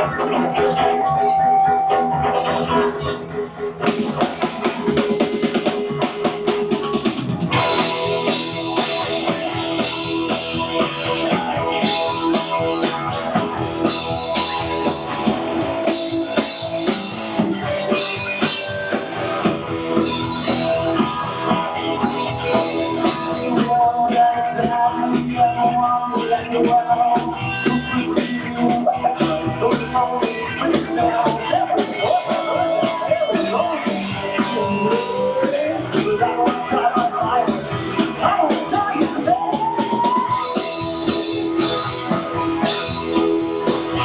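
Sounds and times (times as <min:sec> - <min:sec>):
electric guitar: 0:00.0 - 0:44.0
rock band playing: 0:00.0 - 0:44.0
drum kit steady beat: 0:03.8 - 0:44.0.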